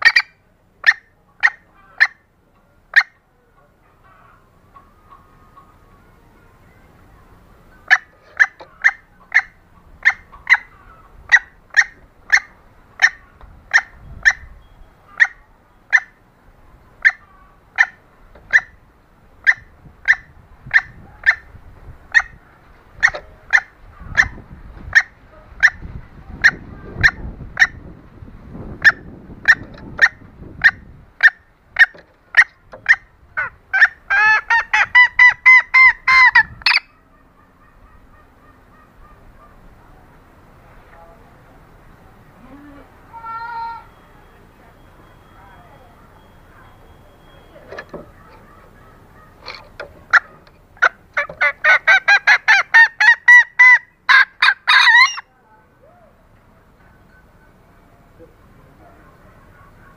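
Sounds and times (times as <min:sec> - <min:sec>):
hen clucking: 0:00.0 - 0:40.3, 0:42.3 - 0:55.3, 0:58.1 - 0:59.9.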